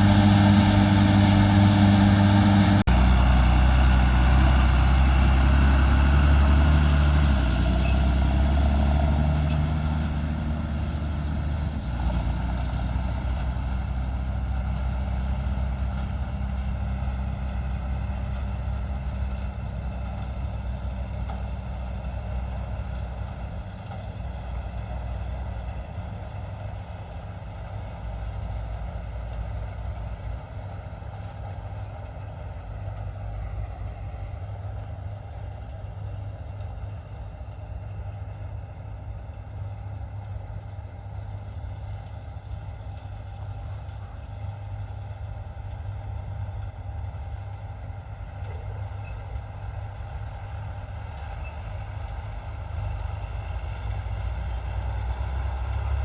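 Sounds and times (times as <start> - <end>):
large diesel engine running: 0.0 - 56.0.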